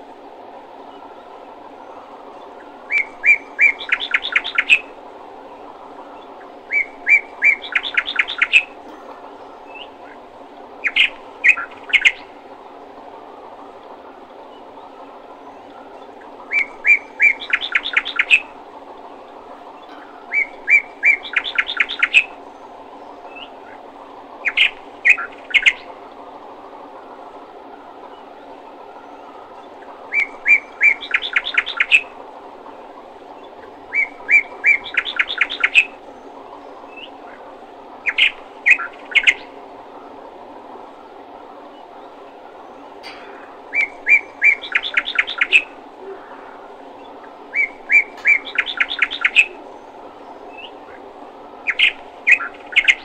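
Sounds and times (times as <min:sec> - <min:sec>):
steady low hum: 0:00.0 - 0:53.0
bird chirps and trills: 0:00.8 - 0:13.0, 0:14.4 - 0:26.0, 0:28.1 - 0:32.2, 0:32.8 - 0:39.6, 0:41.7 - 0:53.0.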